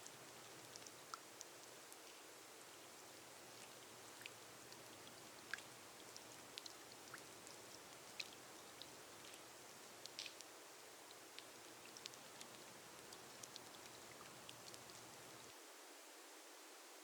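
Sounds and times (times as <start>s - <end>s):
rain on a glass roof: 0.0s - 16.8s.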